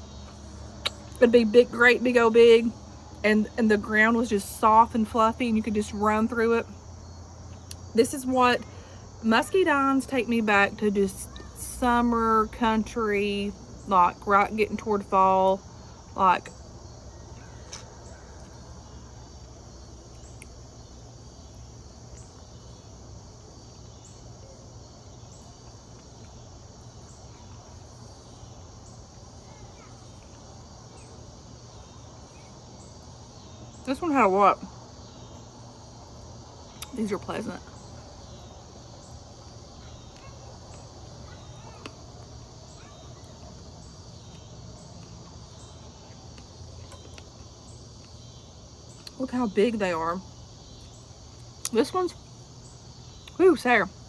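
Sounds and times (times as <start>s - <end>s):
crickets chirring: 0.0s - 54.0s
insect chorus trilling: 0.0s - 54.0s.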